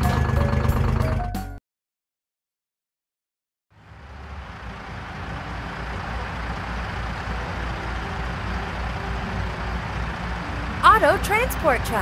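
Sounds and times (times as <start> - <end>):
truck engine rumbling: 0.0 - 1.6, 3.7 - 12.0.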